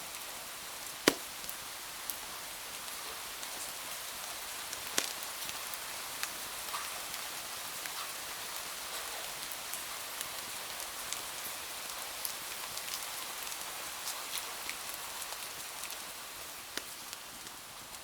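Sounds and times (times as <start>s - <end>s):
rain falling: 1.0s - 18.0s.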